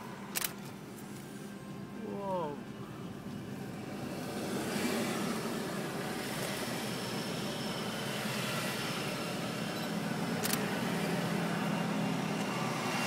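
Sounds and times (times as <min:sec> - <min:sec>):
trucks passing: 0:00.0 - 0:13.0.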